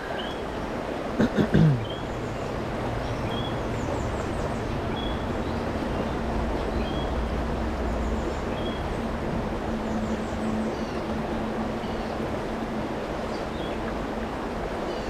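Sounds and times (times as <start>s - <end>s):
rocky creek rushing: 0.0s - 15.0s
songbird chirping: 1.8s - 15.0s.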